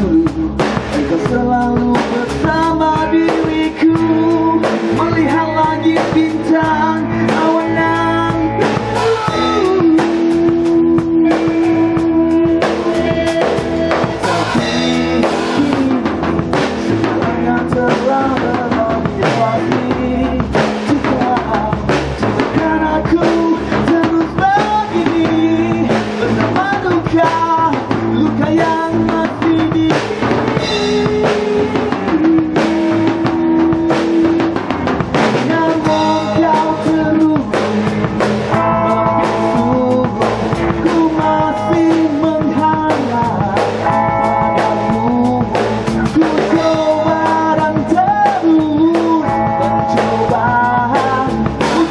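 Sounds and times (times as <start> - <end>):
drum kit with cymbals: 0.0 - 51.9
electric bass: 0.0 - 51.9
electric guitars: 0.0 - 51.9.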